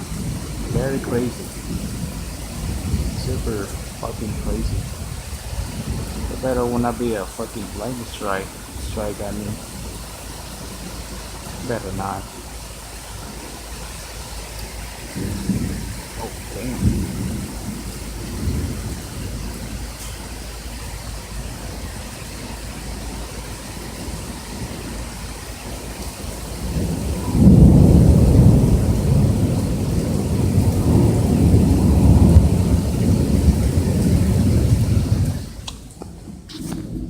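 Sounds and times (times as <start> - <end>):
heavy rain falling: 0.0 - 37.0
thunder rumbling: 0.0 - 37.0.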